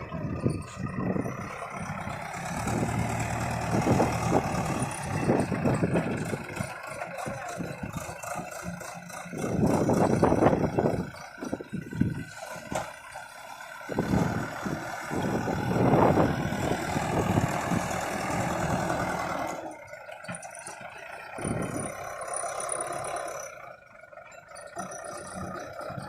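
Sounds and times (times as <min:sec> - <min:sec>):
backhoe engine running: 0:00.0 - 0:26.0.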